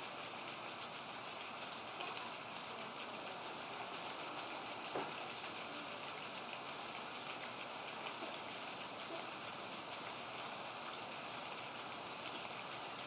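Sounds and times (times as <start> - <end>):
sprinkler water hissing: 0.0 - 13.0
water dripping: 0.1 - 13.0.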